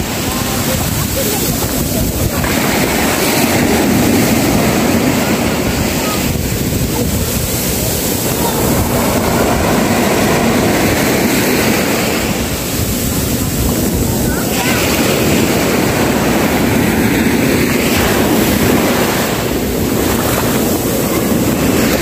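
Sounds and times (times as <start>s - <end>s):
small waves breaking on beach: 0.0s - 22.0s
wind noise on microphone: 0.0s - 22.0s.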